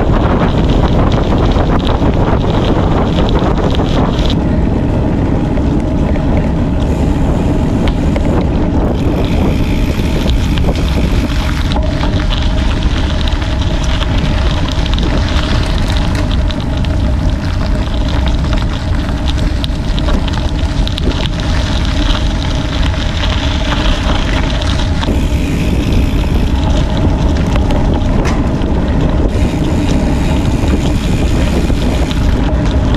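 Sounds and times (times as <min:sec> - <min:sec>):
wind rushing over microphone: 0:00.0 - 0:32.9.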